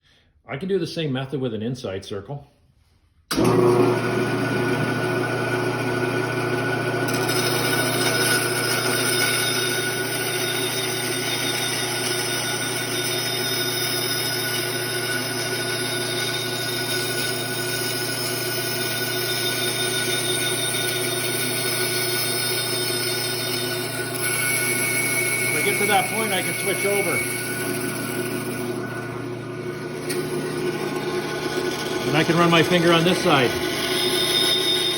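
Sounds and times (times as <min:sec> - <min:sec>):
bandsaw cutting wood: 0:03.3 - 0:34.9.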